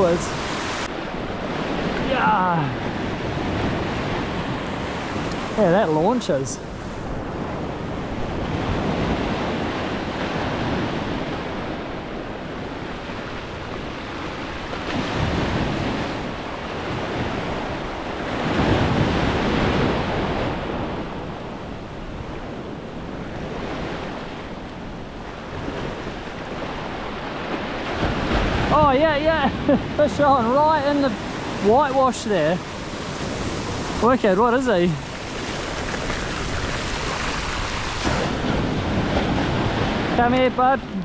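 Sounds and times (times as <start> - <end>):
ocean surf breaking on sand: 0.0 - 41.0.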